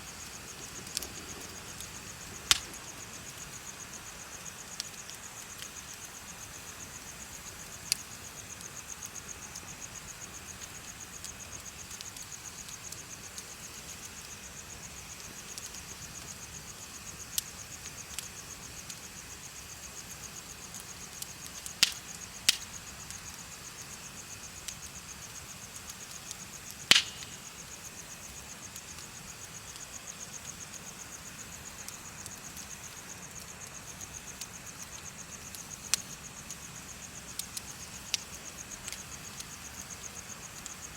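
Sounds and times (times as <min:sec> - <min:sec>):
crickets chirping: 0:00.0 - 0:40.9
bonfire popping and snapping: 0:00.1 - 0:19.0, 0:19.6 - 0:40.9.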